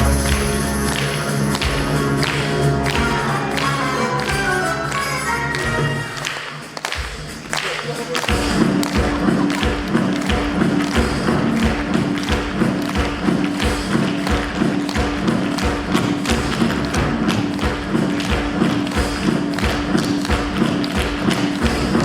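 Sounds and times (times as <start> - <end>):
live band music: 0.0 - 22.0.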